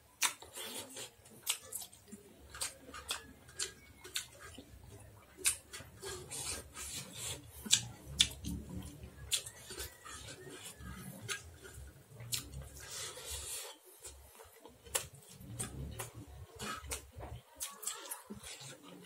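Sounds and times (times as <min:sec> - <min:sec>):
chewing and lip-smacking: 0:00.1 - 0:19.0.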